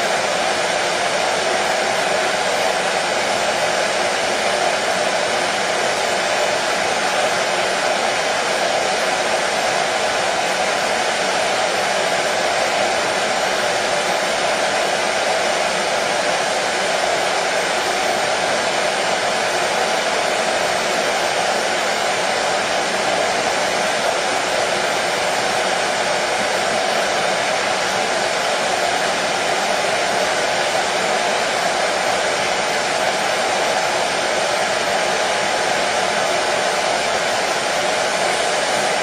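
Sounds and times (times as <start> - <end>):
hair dryer blowing: 0.0 - 39.0.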